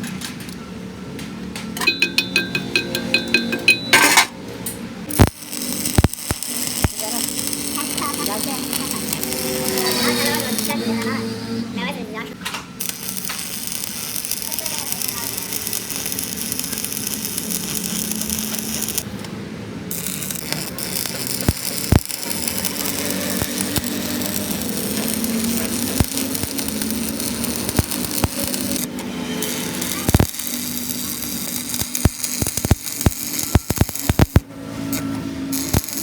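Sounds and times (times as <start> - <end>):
workshop hum: 0.0 - 36.0.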